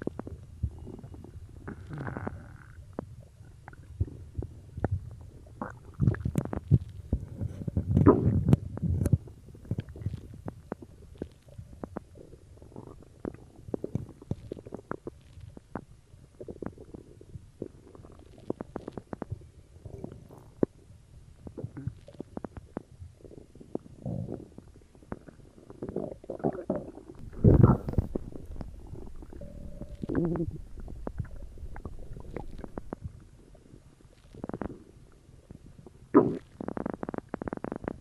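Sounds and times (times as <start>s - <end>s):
stomach gurgling and rumbling: 0.0s - 38.0s.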